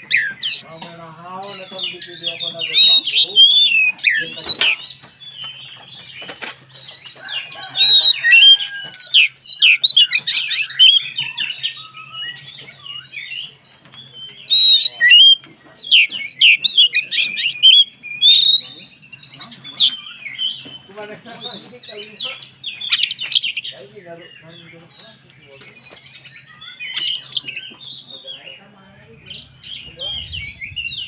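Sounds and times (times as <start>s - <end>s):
songbird whistling and chirping: 0.0s - 0.8s, 1.4s - 20.9s, 21.5s - 23.8s, 24.4s - 28.6s, 29.2s - 31.0s.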